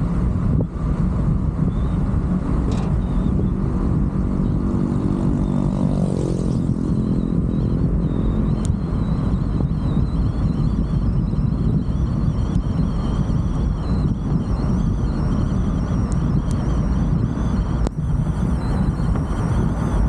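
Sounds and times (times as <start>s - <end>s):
pitched hum: 0.0s - 20.0s
road and wind rumble: 0.0s - 20.0s.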